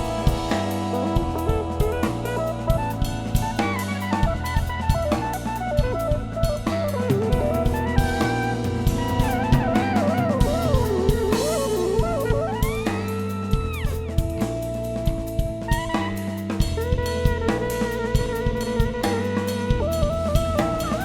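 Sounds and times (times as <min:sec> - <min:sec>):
song with drum beat and bass: 0:00.0 - 0:21.0.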